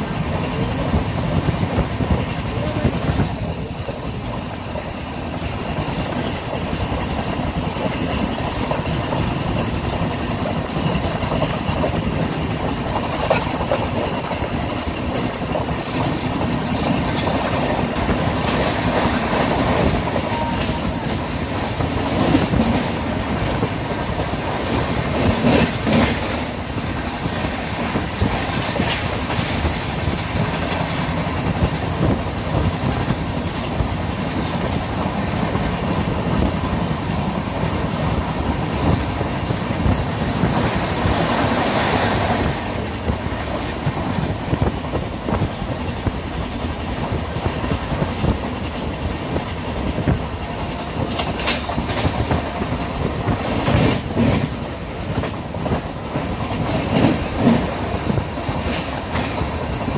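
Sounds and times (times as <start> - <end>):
train coach rumbling: 0.0 - 59.9
train wheels clicking and clattering: 0.0 - 59.9.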